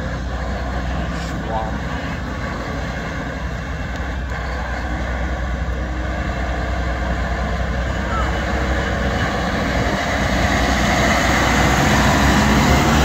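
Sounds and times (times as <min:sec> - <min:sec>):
tractor engines humming: 0:00.0 - 0:13.0.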